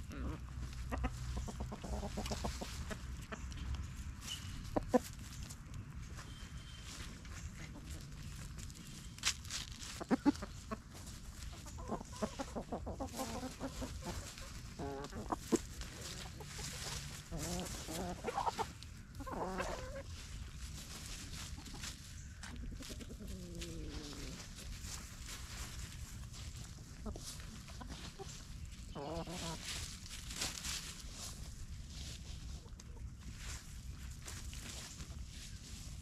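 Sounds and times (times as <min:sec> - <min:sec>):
chickens clucking: 0:00.0 - 0:36.0
scratching in leaf litter: 0:00.1 - 0:36.0.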